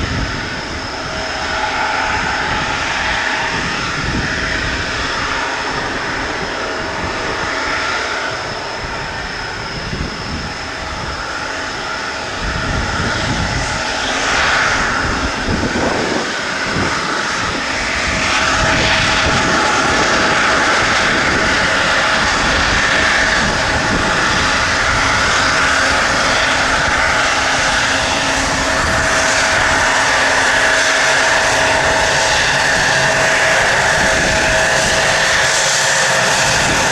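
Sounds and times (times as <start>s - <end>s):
jet engines whining: 0.0s - 36.9s
wind rumbling on microphone: 0.0s - 36.9s.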